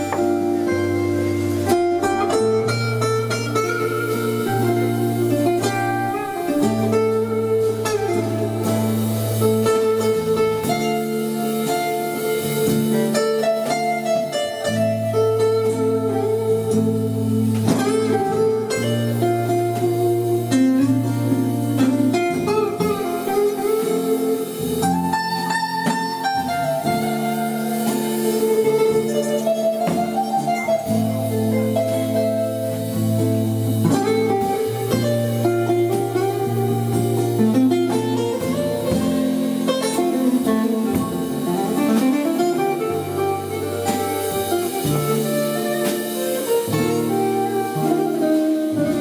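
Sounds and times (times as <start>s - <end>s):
acoustic guitar chords: 0.0s - 49.0s.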